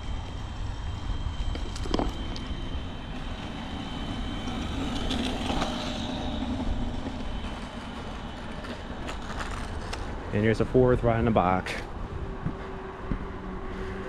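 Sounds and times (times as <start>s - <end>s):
scooters rolling past: 0.0s - 14.0s.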